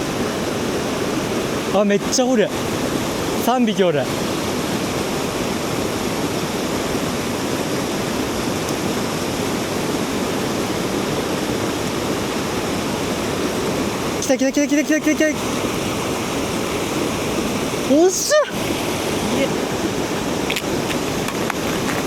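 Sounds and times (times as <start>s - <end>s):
mountain stream rushing: 0.0s - 22.0s.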